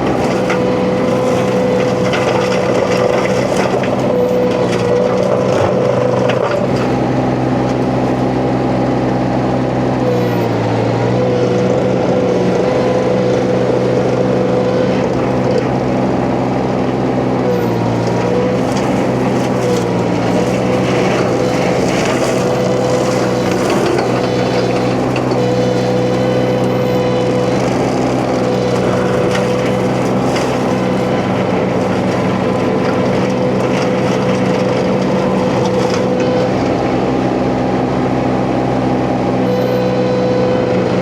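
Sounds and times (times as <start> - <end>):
engine running hard: 0.0 - 41.0
flail mulcher shredding brush: 0.0 - 41.0.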